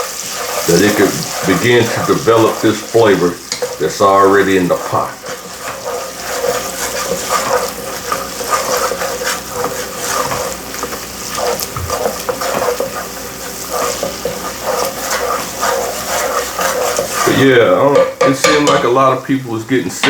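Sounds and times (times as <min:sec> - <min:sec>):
utensil stirring and scraping: 0:00.0 - 0:19.1
onion sizzling in butter: 0:00.0 - 0:20.0.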